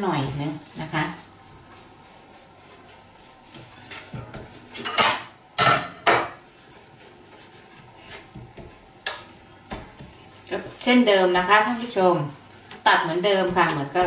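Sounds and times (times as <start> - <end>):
dough rubbing on wooden board: 0.0 - 4.8, 6.4 - 14.0.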